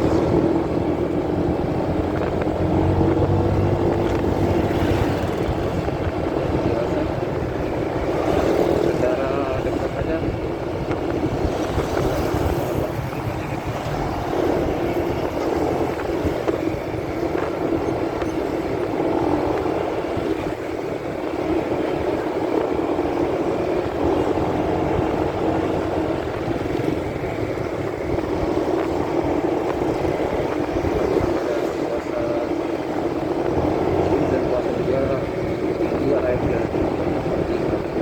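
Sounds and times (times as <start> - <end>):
muffled motorcycle engine: 0.0 - 38.0
muffled wind noise: 0.0 - 38.0.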